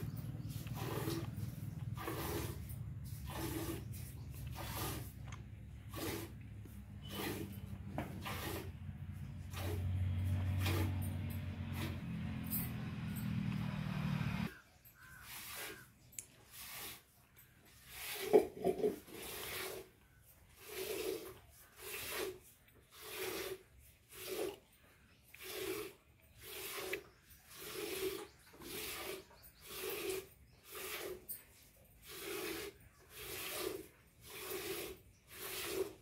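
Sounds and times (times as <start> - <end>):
milk squirting into steel pail: 0.0 - 12.7, 15.0 - 36.0.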